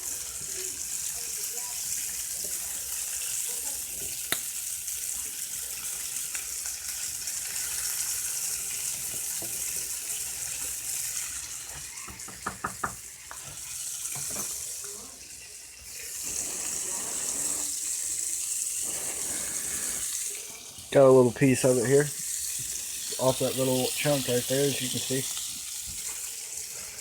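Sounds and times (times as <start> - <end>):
fish frying in butter: 0.0 - 27.0.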